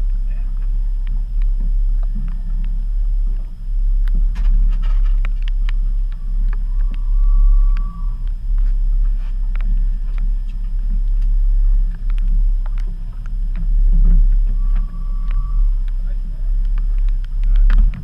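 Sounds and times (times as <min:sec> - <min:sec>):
boat engine rumble: 0:00.0 - 0:18.0.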